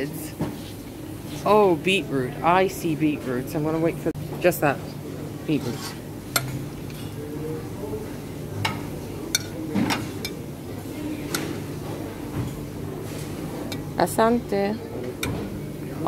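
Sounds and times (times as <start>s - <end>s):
murmur of voices: 1.0s - 16.0s.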